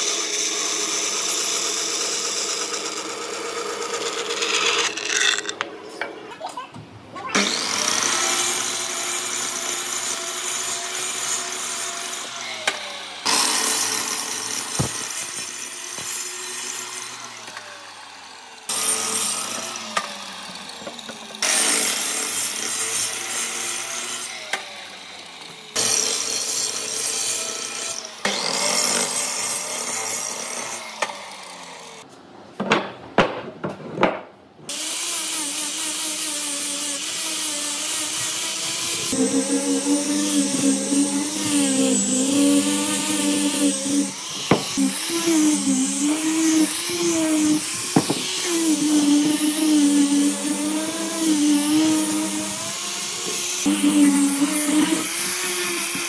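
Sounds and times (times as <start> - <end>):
power saw cutting wood: 0.0 - 5.6, 7.3 - 32.0, 34.7 - 56.0.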